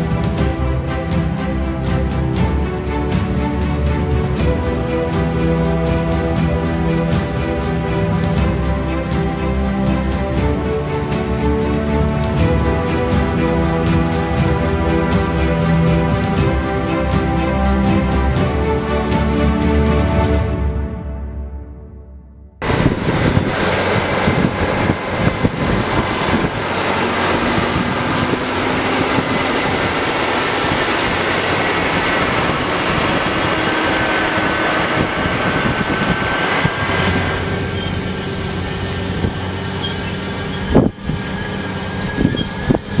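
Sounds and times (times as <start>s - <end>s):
tractor engine drone: 0.0s - 43.0s.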